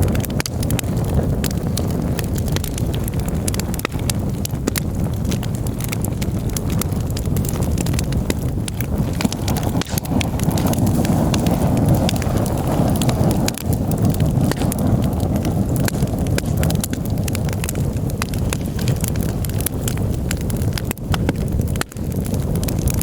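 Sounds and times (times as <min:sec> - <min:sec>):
campfire crackling and popping: 0:00.0 - 0:23.0
low rumble of fire: 0:00.0 - 0:23.0.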